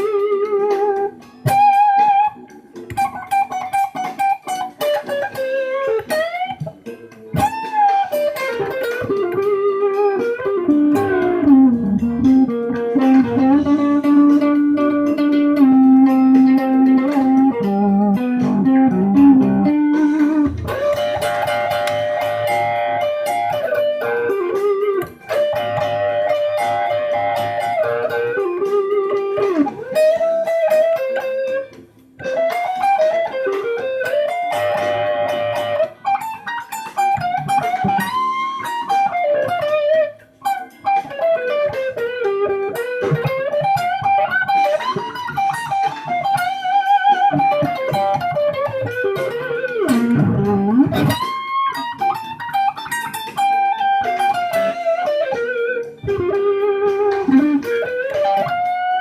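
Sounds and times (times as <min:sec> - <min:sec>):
fuzz electric guitar blues lead: 0:00.0 - 0:59.0.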